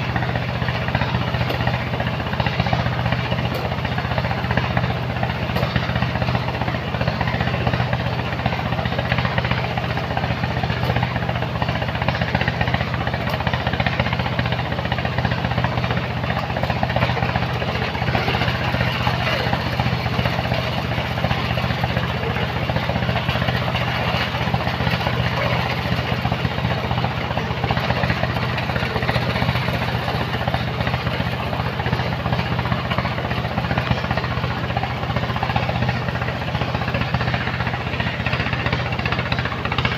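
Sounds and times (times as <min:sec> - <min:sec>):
heavy machinery engine chugging: 0:00.0 - 0:39.9.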